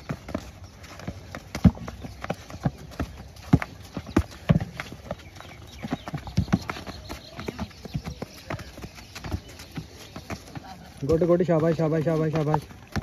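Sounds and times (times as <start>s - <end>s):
running footfalls and landing thuds: 0.0s - 13.0s.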